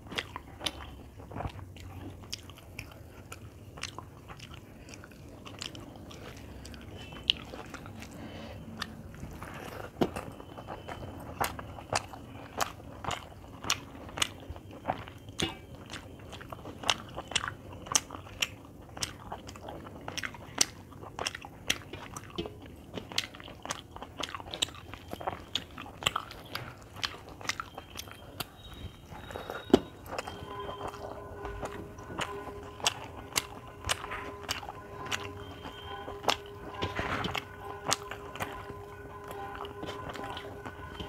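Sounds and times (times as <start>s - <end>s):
person chewing: 0.0s - 41.0s.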